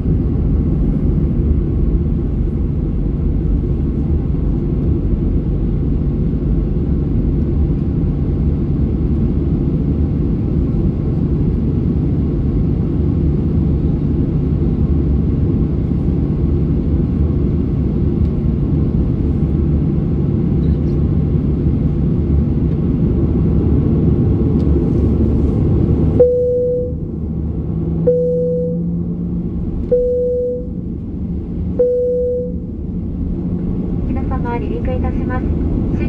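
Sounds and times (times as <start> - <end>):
aircraft cabin rumble: 0.0 - 36.0.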